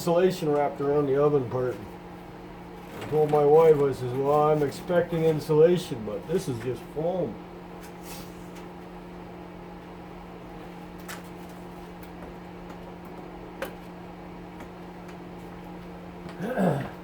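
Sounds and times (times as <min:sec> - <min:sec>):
blower fan humming: 0:00.0 - 0:17.0.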